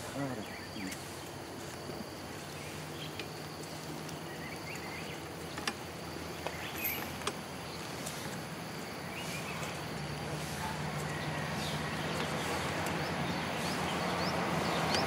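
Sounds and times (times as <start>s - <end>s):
insect buzz: 0.0s - 15.0s.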